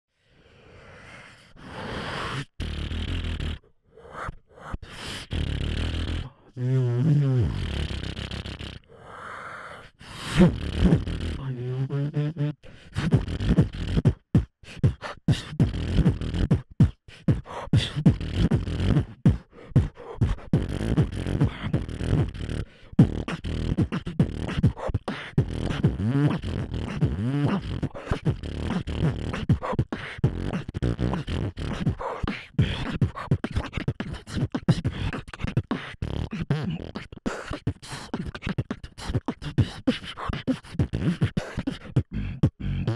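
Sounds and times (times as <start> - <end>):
beatboxing into microphone: 1.6 - 9.1, 10.0 - 42.9
sliding pitched vocal tones: 1.6 - 9.2, 9.8 - 42.9.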